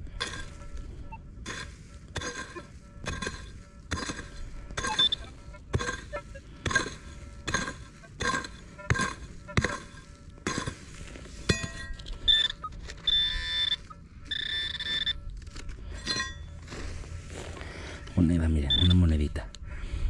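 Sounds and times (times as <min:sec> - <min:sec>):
metal detector beeping: 0:00.0 - 0:19.6.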